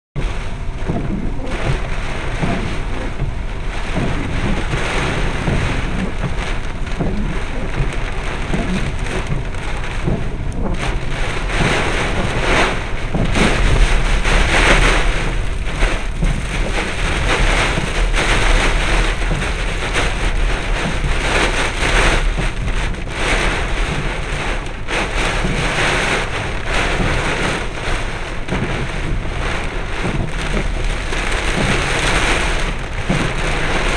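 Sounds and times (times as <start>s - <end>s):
storm winds rushing: 0.2s - 33.9s.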